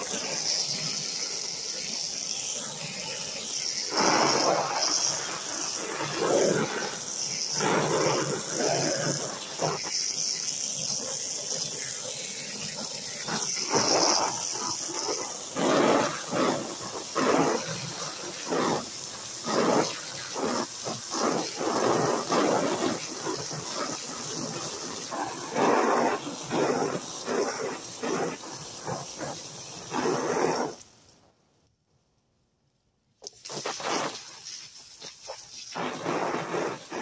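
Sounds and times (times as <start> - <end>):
water spray hissing: 0.0 - 31.2, 33.2 - 37.0.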